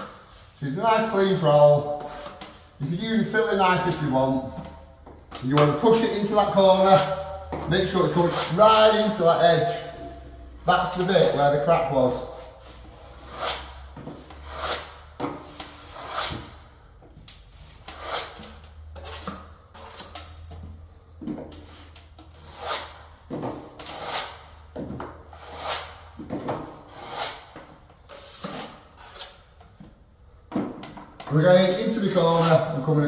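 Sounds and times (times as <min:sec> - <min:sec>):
trowel scraping filler: 0:00.0 - 0:04.6, 0:05.4 - 0:10.2, 0:10.8 - 0:16.6, 0:17.5 - 0:20.6, 0:21.5 - 0:29.6, 0:31.4 - 0:32.9.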